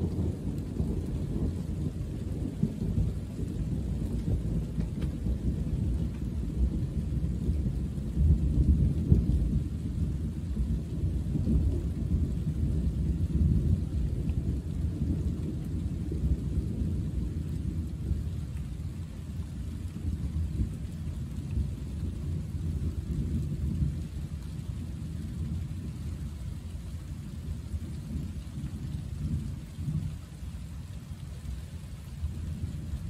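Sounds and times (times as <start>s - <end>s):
distant thunder rumbling: 0.0s - 30.7s.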